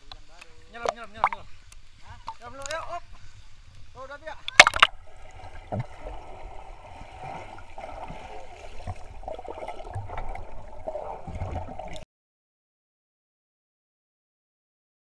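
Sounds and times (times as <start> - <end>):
water sloshing and bubbling underwater: 0.0 - 12.0.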